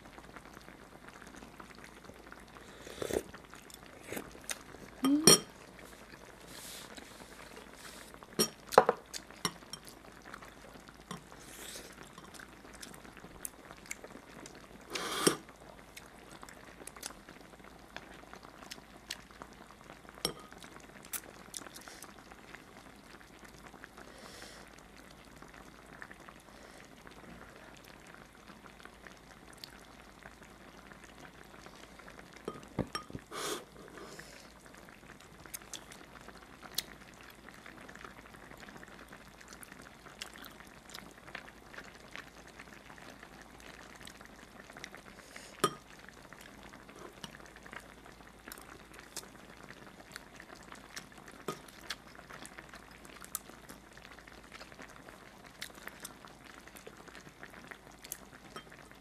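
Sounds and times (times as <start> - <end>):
stew bubbling in a pot: 0.0 - 59.0.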